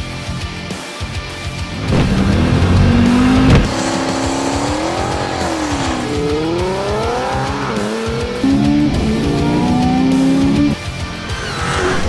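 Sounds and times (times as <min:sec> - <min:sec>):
music playing: 0:00.0 - 0:12.0
truck engine revving: 0:01.6 - 0:12.0.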